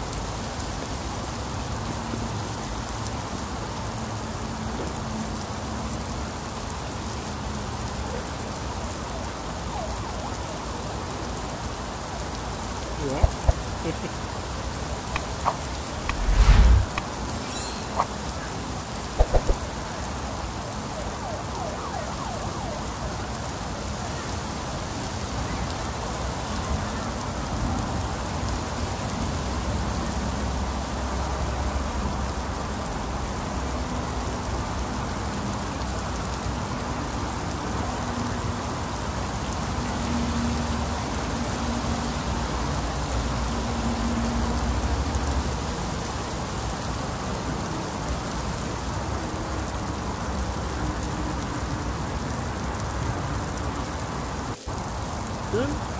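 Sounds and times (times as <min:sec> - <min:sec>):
heavy rain on wet ground: 0:00.0 - 0:55.9.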